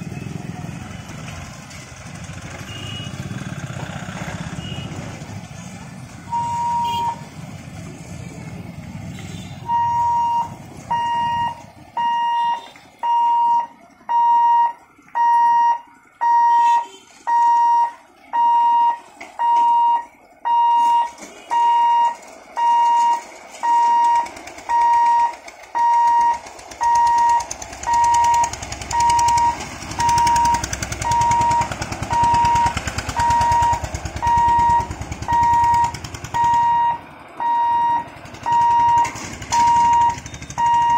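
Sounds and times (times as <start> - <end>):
vehicle engines: 0.0 - 40.9
warning hooter beeping: 6.1 - 7.4, 9.0 - 40.9.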